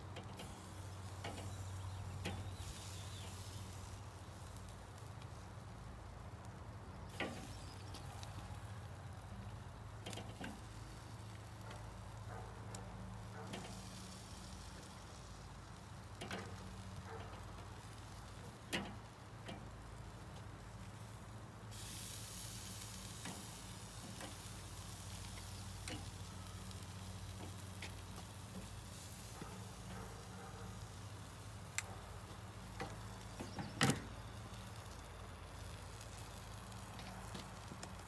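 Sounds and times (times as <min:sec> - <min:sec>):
chicken sizzling on grill: 0:00.0 - 0:38.0.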